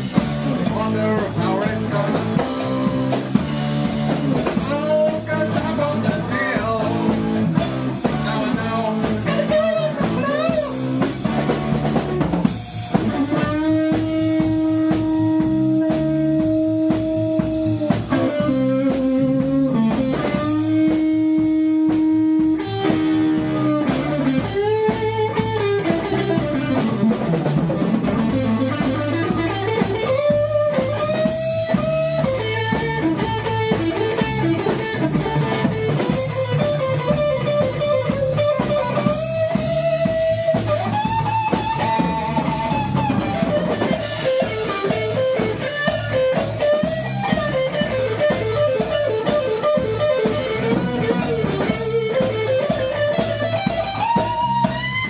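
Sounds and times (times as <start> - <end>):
drum kit: 0.0 - 55.0
electric guitar lead: 0.0 - 55.0.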